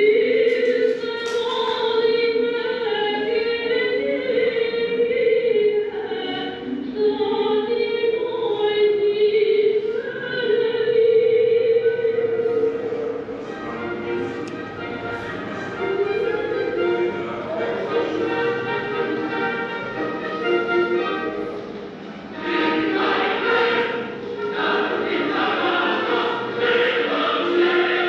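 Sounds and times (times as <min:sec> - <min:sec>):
choir singing long held notes: 0:00.0 - 0:28.0.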